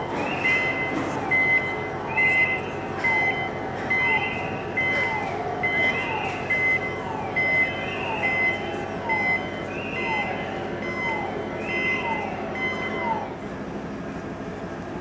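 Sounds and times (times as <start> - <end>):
electronic warning alarm beeping: 0.0 - 13.4.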